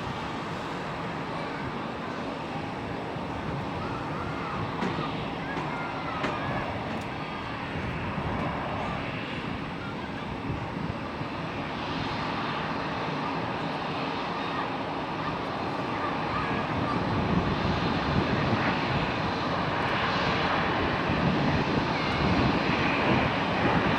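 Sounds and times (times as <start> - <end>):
aircraft engine rush: 0.0 - 23.9.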